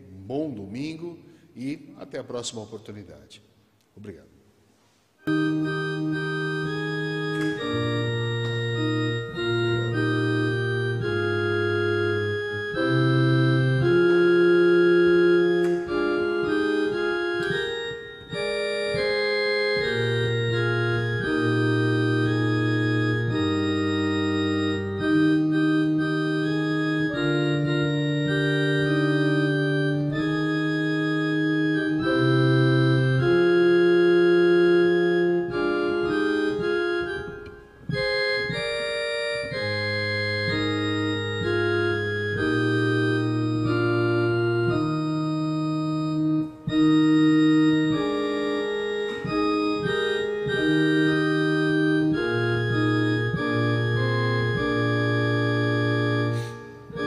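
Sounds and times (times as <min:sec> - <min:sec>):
organ playing a hymn: 0:05.2 - 0:57.0.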